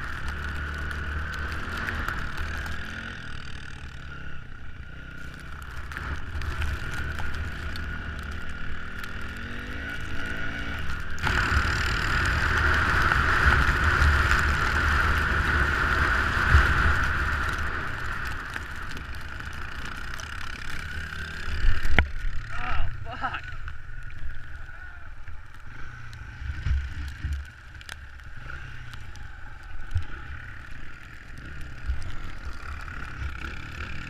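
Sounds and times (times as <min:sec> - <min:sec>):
off-road vehicle engine rumbling: 0:00.0 - 0:34.0.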